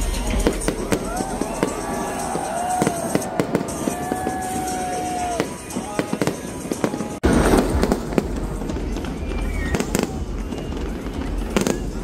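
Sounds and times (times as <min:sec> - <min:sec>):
fireworks booming: 0:00.0 - 0:12.0
fireworks cracking and popping: 0:00.0 - 0:12.0
whistling fireworks: 0:00.0 - 0:12.0.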